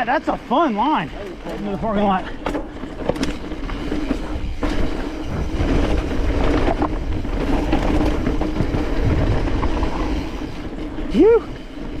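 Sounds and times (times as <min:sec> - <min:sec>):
bike rattling over bumps: 0:00.0 - 0:12.0
bike tyres rumbling on dirt: 0:00.0 - 0:12.0
wind buffeting microphone: 0:01.0 - 0:12.0.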